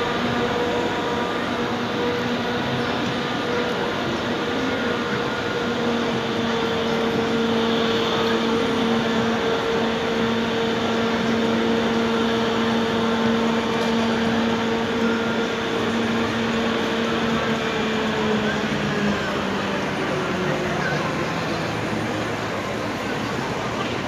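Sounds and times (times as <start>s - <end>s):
mechanical hum: 0.0s - 24.0s.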